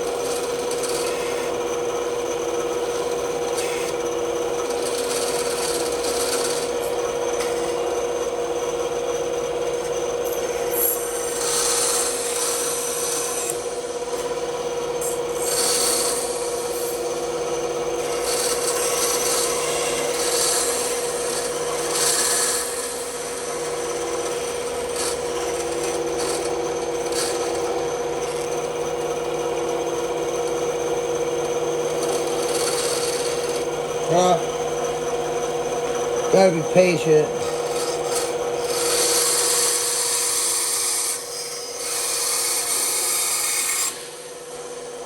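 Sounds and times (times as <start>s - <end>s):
bandsaw cutting wood: 0.0s - 8.2s, 10.3s - 13.8s, 15.0s - 44.7s.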